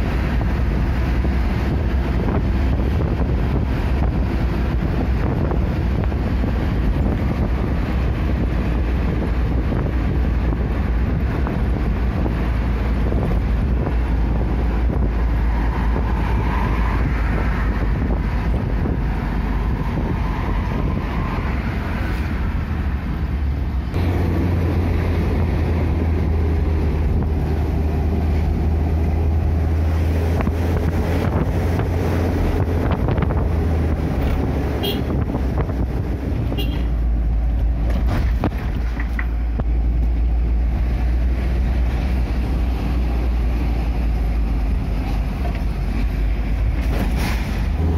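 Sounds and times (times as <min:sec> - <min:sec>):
vehicle engine and road noise: 0:00.0 - 0:47.9
wind buffeting microphone: 0:00.0 - 0:47.9.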